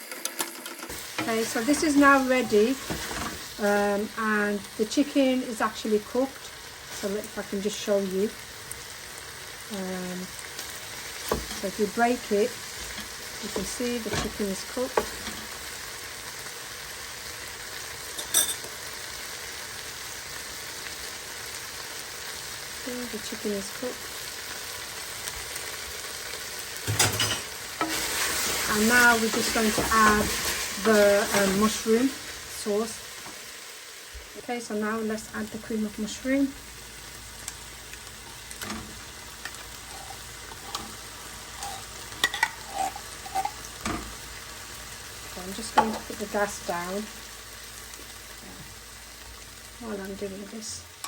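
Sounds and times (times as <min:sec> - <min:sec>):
chicken sizzling in a frying pan: 0:00.0 - 0:51.0.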